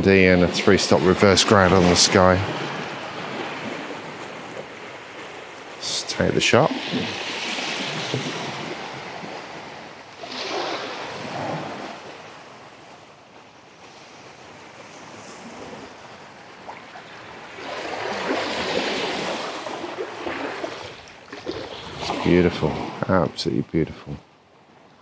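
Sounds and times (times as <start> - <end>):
small waves washing on shore: 0.0 - 23.6.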